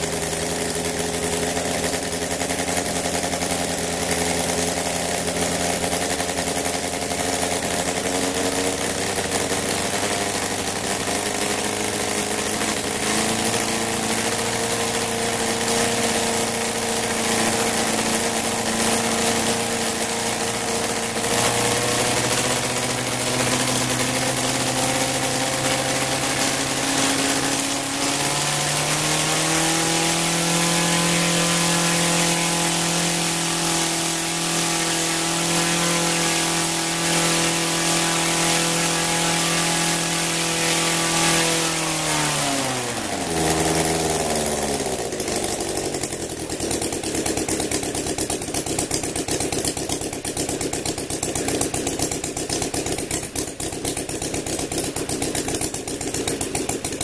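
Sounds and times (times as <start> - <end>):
model aircraft engine running: 0.0 - 57.0.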